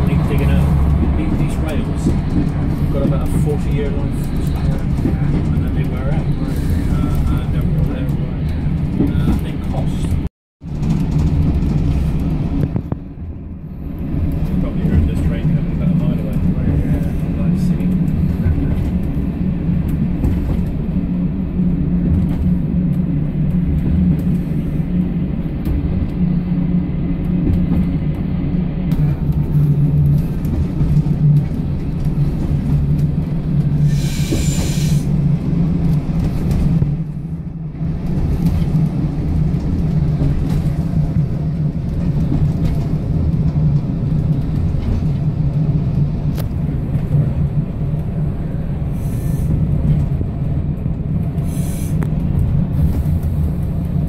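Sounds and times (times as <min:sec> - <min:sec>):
train engine drone: 0:00.0 - 0:54.0
wheels rumbling on track: 0:00.0 - 0:54.0.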